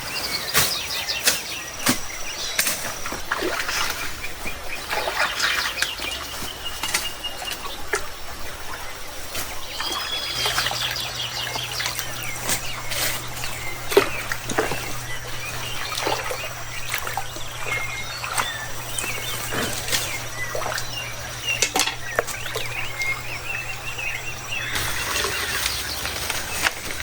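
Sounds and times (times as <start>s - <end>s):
small birds chirping: 0.0s - 27.0s
steady low hum: 0.0s - 27.0s.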